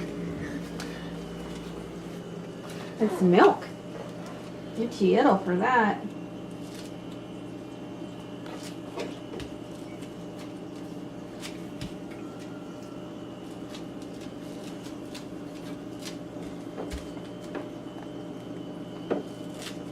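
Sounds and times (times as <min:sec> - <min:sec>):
items handled in refrigerator: 0:00.0 - 0:19.9
refrigerator hum: 0:00.0 - 0:19.9.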